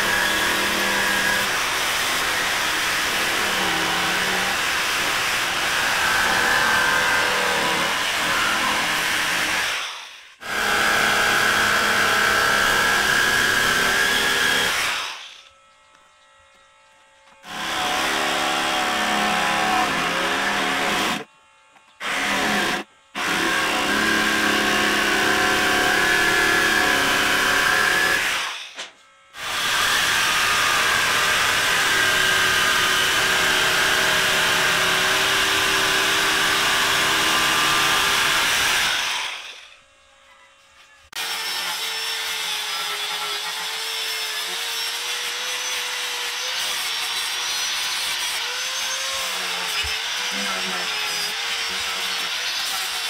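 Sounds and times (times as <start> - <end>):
power tool working wood: 0.0 - 53.0.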